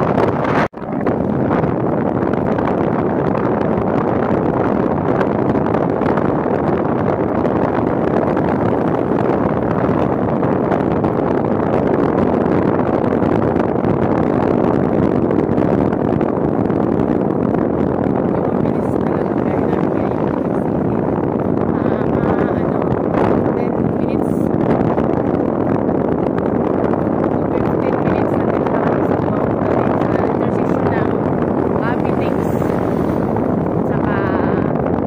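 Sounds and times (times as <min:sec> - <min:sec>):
wind rush: 0:00.0 - 0:35.0.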